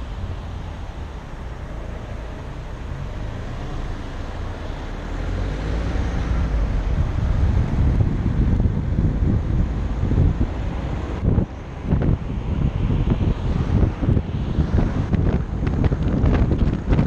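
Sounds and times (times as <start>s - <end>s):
road rumble of moving car: 0.0s - 17.0s
wind rush: 0.0s - 17.0s.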